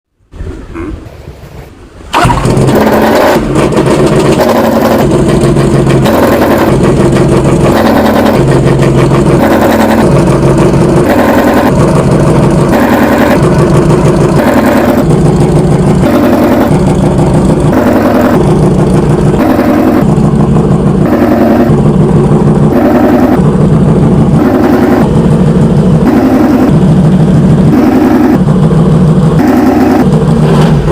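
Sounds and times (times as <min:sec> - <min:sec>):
racing motorcycle engine revving: 0:02.5 - 0:30.9.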